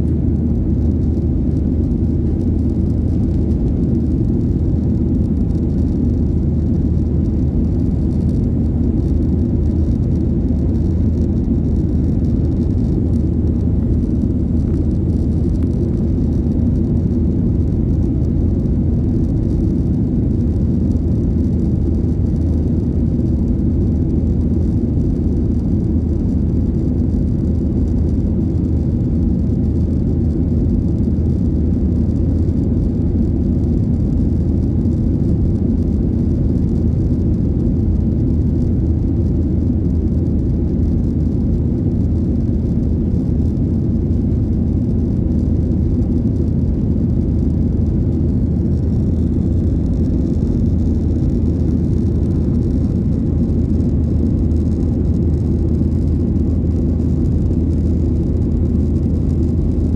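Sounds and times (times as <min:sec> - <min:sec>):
airplane cabin engine roar: 0:00.0 - 0:59.9.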